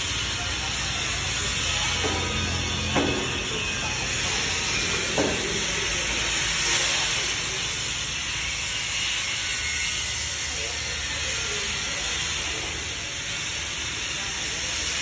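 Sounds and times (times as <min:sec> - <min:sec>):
laser welder hiss: 0:00.0 - 0:15.0.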